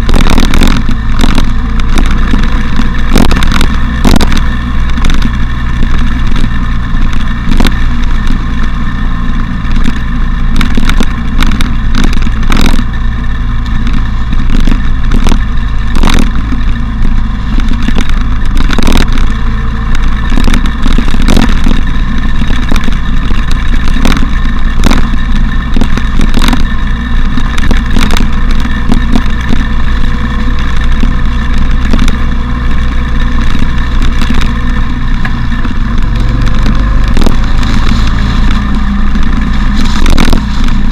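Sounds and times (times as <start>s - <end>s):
low wind rumble: 0.0s - 40.9s
motorcycle engine running: 0.0s - 40.9s
sharp clicks and knocks: 0.0s - 40.9s.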